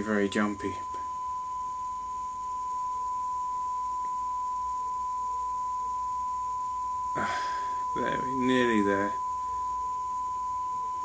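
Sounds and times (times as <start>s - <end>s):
steady test tone: 0.0s - 11.0s.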